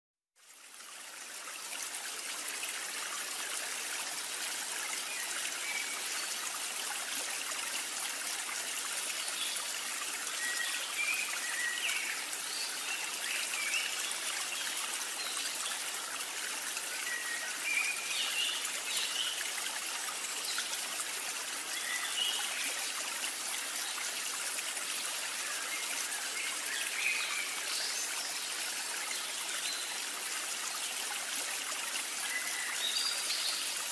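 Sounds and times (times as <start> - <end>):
stream trickling: 0.4 - 33.9.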